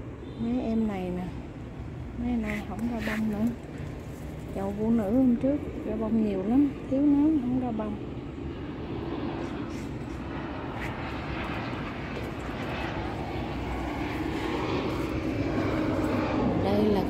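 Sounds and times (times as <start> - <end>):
airplane engines rumbling overhead: 0.0 - 17.0.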